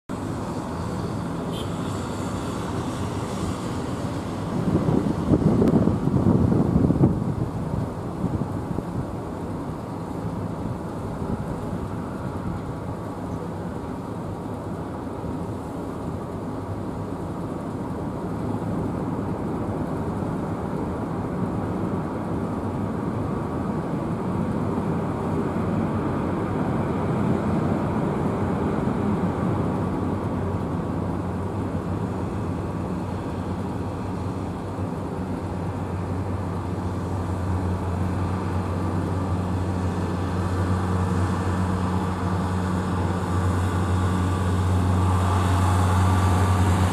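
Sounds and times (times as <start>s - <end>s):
jet engine rushing rumble: 0.1s - 46.9s.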